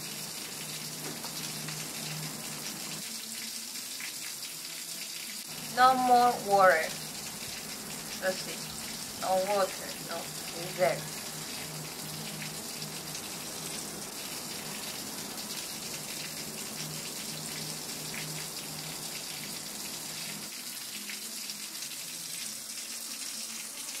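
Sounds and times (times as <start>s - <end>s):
water running and splashing: 0.0s - 24.0s.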